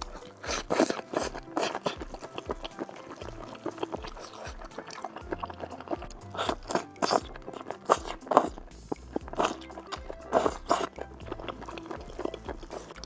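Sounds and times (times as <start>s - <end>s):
background music: 0.0s - 13.0s
crunching bites and chewing: 0.0s - 13.0s.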